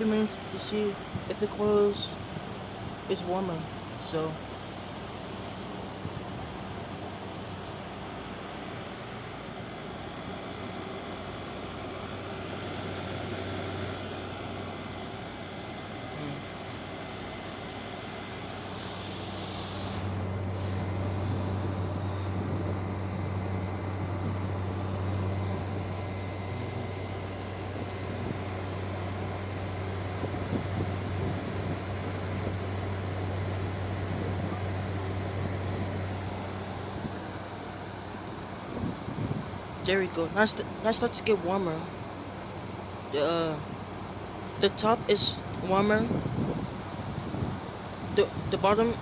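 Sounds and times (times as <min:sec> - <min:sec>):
compressor hum: 0:00.0 - 0:49.0
fan air rushing: 0:00.0 - 0:49.0.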